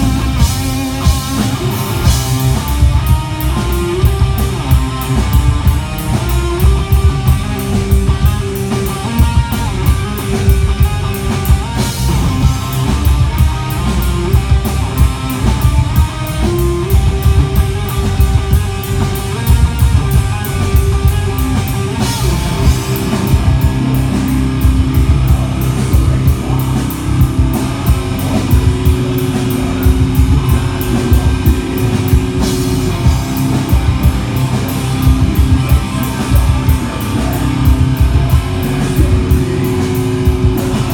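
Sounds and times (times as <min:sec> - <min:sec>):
heavy metal band playing: 0:00.0 - 0:40.9.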